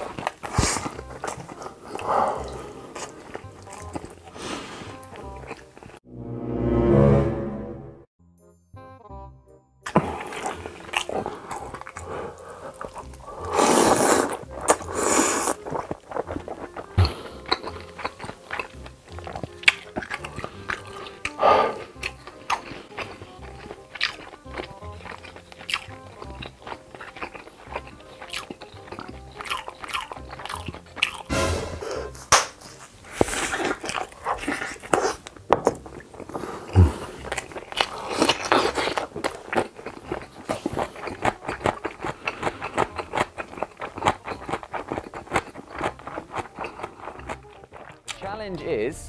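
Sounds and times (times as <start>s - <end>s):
crunching and chewing food: 0.0s - 6.0s, 9.8s - 31.3s, 32.1s - 48.2s
soft background music: 0.0s - 49.0s.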